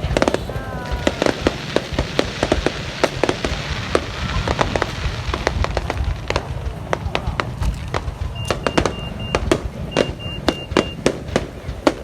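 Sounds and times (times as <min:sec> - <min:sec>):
fireworks bangs and crackles: 0:00.0 - 0:12.0
steady rumble: 0:00.0 - 0:12.0.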